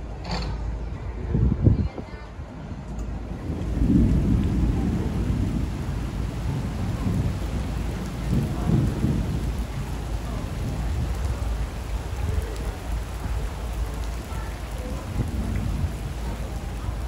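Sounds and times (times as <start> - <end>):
rain hissing: 3.2 - 17.0
thunder rumbling: 3.2 - 17.0.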